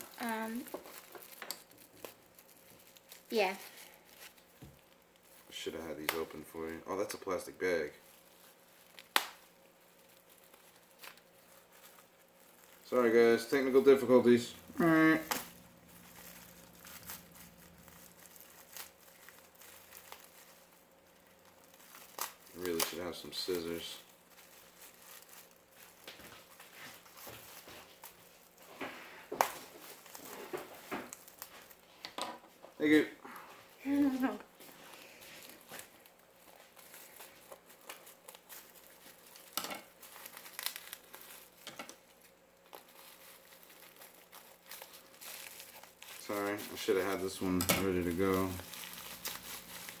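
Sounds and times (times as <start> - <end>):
plastic bag crinkling: 0.0 - 32.0, 32.8 - 50.0.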